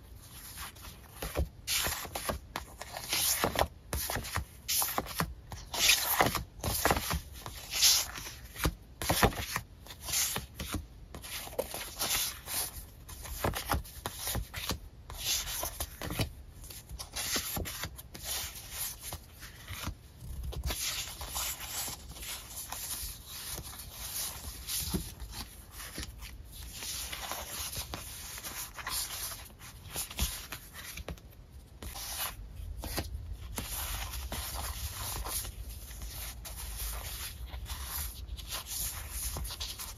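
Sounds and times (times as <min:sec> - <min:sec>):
paper sticker sheets rustling: 0:00.2 - 0:39.9.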